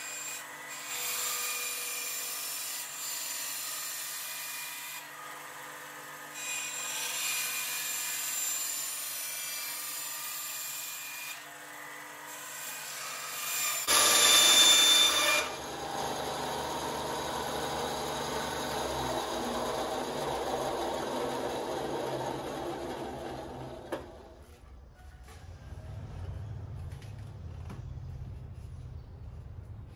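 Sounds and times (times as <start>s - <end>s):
bandsaw cutting: 0.0s - 24.4s.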